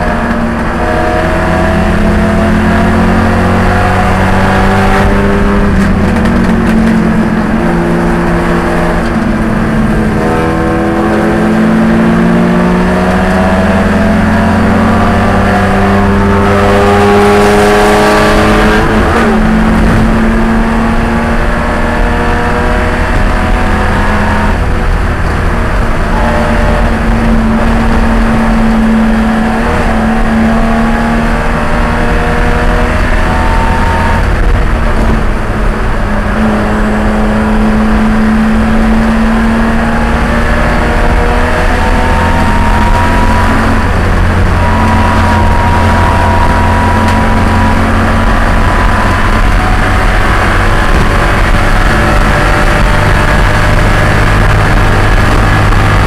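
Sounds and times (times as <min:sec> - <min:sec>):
race car engine accelerating: 0:00.0 - 0:56.0.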